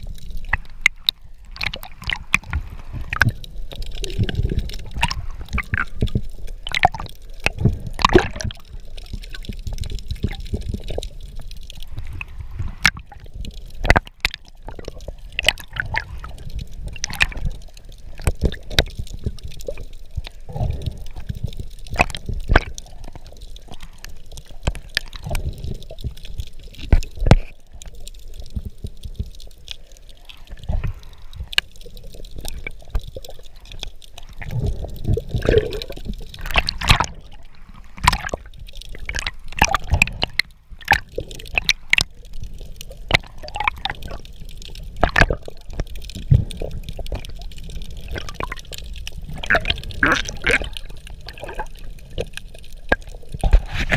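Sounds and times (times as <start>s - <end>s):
underwater rushing: 0.0s - 53.9s.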